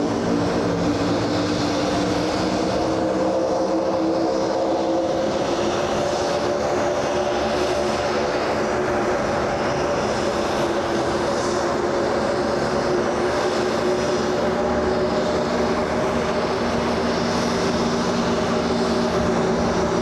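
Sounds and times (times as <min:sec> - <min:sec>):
jet engines droning: 0:00.0 - 0:20.0.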